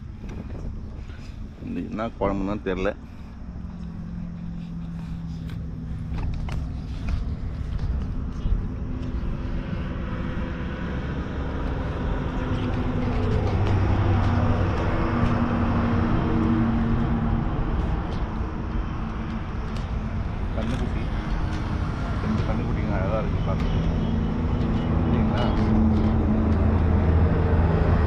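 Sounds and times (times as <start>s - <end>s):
highway traffic passing: 0.0s - 28.0s.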